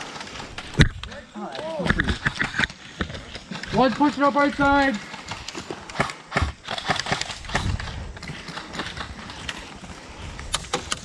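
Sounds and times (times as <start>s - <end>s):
sharp clicks and knocks: 0.1s - 9.8s, 10.4s - 11.0s.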